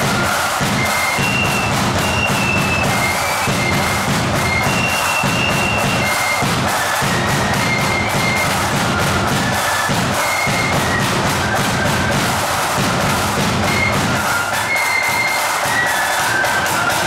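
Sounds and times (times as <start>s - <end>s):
flutes playing melody: 0.0s - 17.0s
snare drums rattling: 0.0s - 17.0s.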